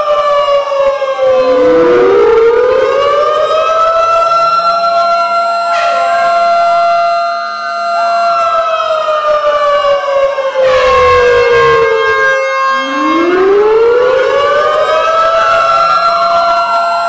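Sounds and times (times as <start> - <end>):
tornado sirens wailing: 0.0 - 17.0.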